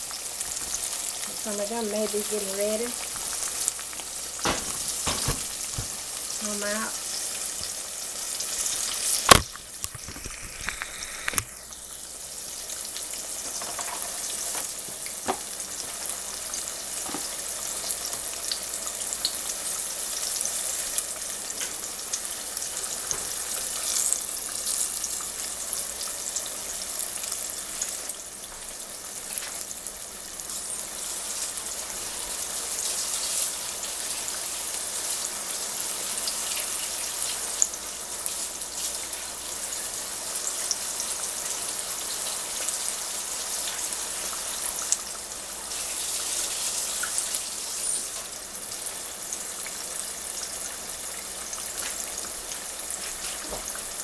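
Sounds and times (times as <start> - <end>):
food deep-frying in oil: 0.0 - 54.0.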